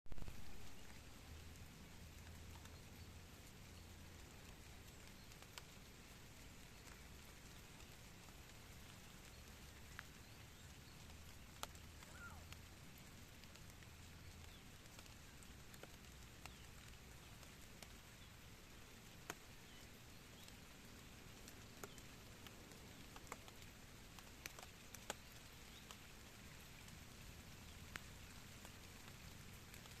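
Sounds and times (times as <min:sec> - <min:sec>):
faint background hiss: 0:00.1 - 0:30.0
faint clicks: 0:00.2 - 0:27.0, 0:27.6 - 0:30.0.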